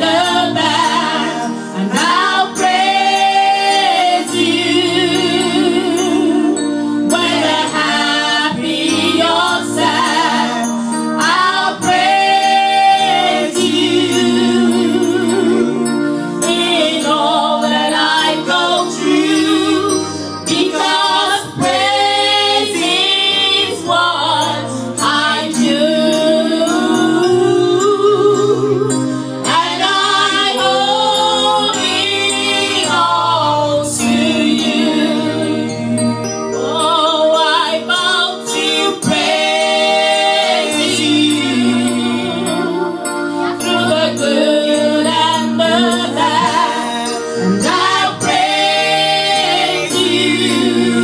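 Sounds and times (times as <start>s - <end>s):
woman singing into microphone: 0.0s - 35.8s, 36.6s - 51.0s
electronic keyboard chords: 0.0s - 51.0s.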